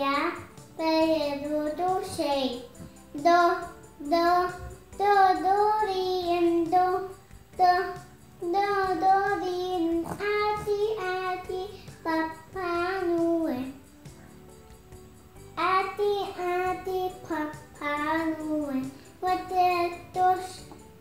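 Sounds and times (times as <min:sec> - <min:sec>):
girl singing: 0:00.0 - 0:13.9, 0:15.5 - 0:21.0.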